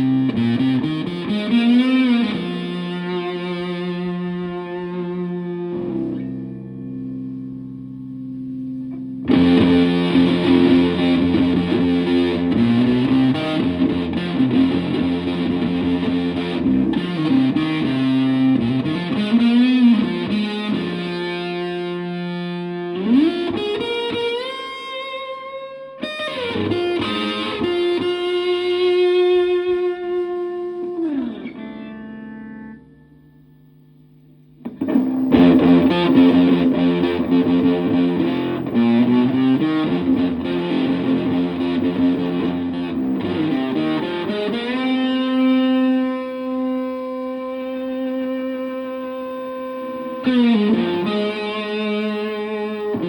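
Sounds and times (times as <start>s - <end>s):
faint amp hum: 0.0s - 53.0s
fuzz electric guitar: 0.0s - 53.0s.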